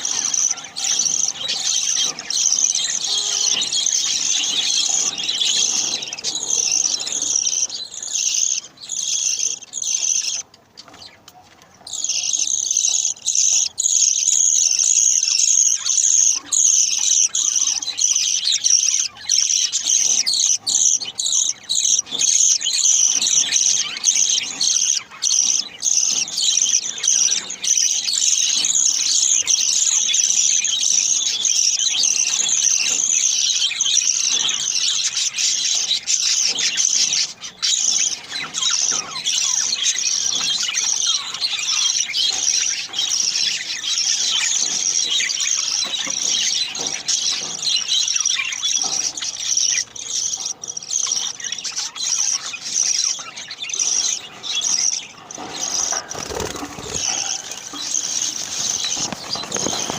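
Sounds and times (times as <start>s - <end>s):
budgerigar chicks squealing: 0.0s - 11.2s, 11.8s - 59.9s.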